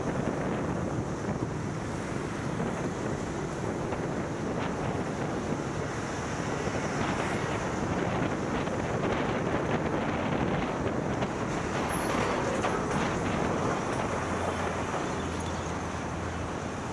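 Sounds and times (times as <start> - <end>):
road and traffic noise: 0.0 - 16.9
wind buffeting microphone: 0.0 - 16.9.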